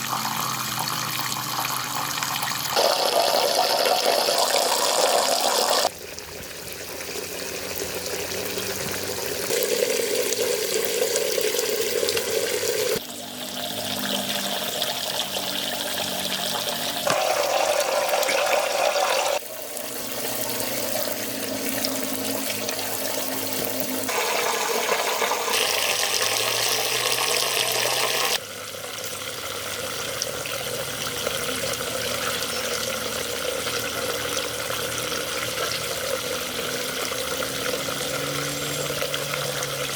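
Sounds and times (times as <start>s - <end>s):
water running and pouring: 0.0s - 39.9s.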